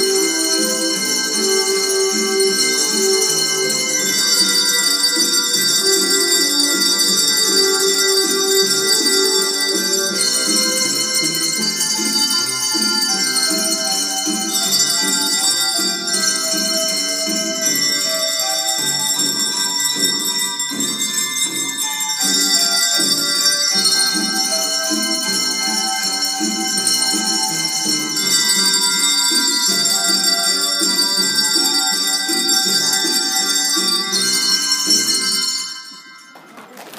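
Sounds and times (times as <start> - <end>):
handbells ringing a tune: 0.0 - 36.6.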